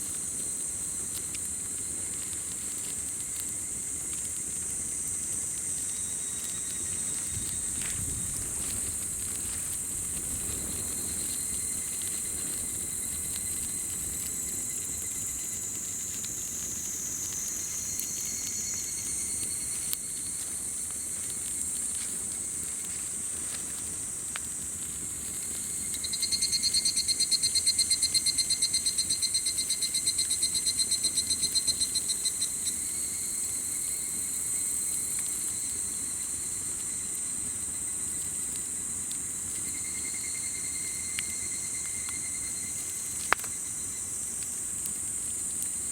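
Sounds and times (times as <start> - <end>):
campfire snaps: 0.0 - 26.6, 33.8 - 45.9
insects trilling: 0.0 - 45.9
rapidly pulsing insect trill: 0.0 - 45.9.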